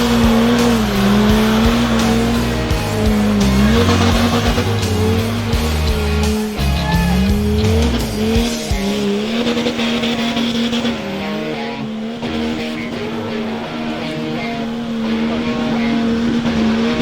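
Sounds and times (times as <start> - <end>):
off-road engine revving: 0.0 - 17.0.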